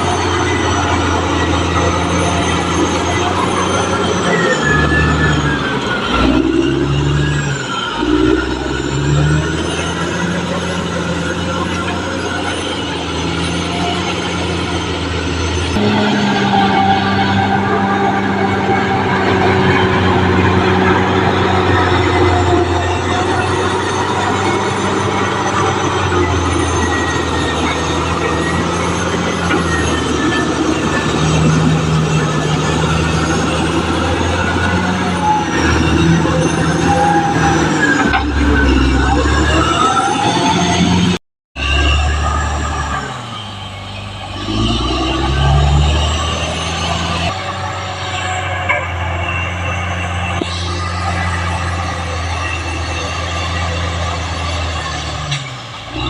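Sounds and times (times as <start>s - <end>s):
bulldozer diesel engine: 0.0s - 56.0s
high squeal from steel tracks: 0.0s - 56.0s.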